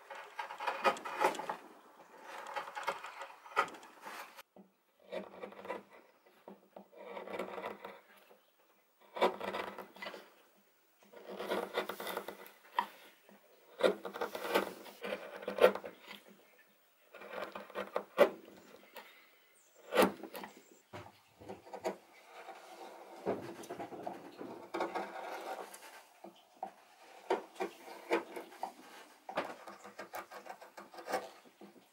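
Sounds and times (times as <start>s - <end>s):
gouge scraping wood: 0.0s - 8.2s, 9.0s - 10.4s, 11.1s - 16.4s, 17.1s - 20.8s, 21.4s - 31.8s.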